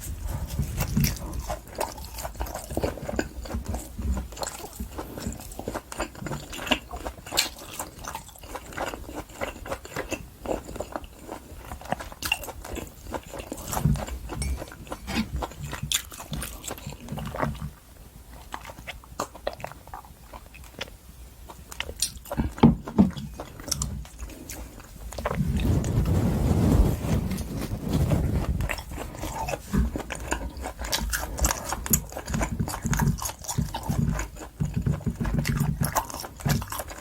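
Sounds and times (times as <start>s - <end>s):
close chewing with wet mouth clicks: 0.0s - 25.9s, 27.9s - 37.0s.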